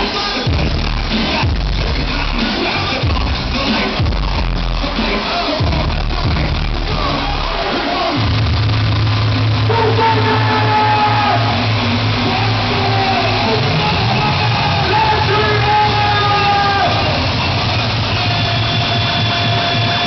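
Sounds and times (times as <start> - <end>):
hardcore techno over sound system: 0.0 - 20.0.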